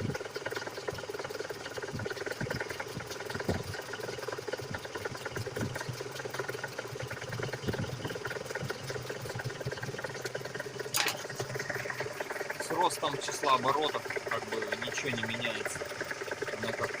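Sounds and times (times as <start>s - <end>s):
engine knocking and clatter: 0.0s - 17.0s
petrol engine running at low revs: 0.0s - 17.0s.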